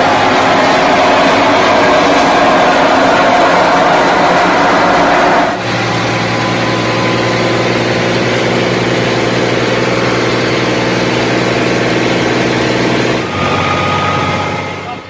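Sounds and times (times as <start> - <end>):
belt-driven thresher running: 0.0 - 15.0
tractor diesel engine running: 0.0 - 15.0.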